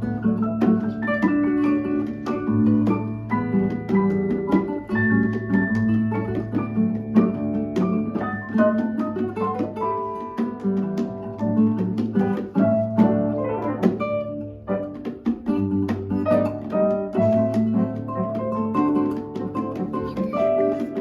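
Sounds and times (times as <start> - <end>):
fingerpicked acoustic guitar: 0.0 - 21.0.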